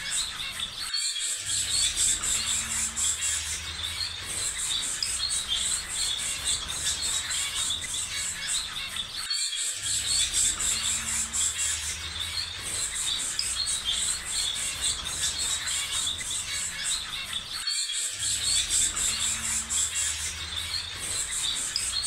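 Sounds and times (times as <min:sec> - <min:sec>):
birds chirping: 0:00.0 - 0:22.0
pulsing insect chorus: 0:00.0 - 0:22.0.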